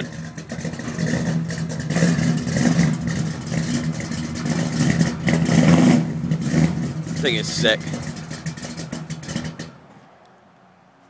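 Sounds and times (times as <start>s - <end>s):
pickup truck engine revving: 0.0s - 9.9s.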